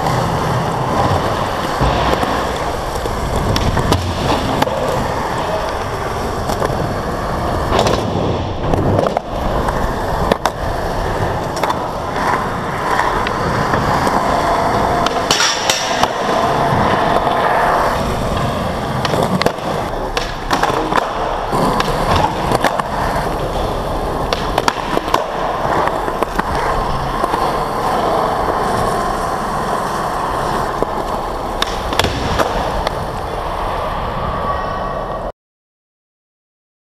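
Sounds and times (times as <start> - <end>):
skateboard wheels rolling on concrete: 0.0 - 35.3
skateboard tail popping clacks: 0.8 - 6.8, 7.7 - 28.7, 29.3 - 33.1.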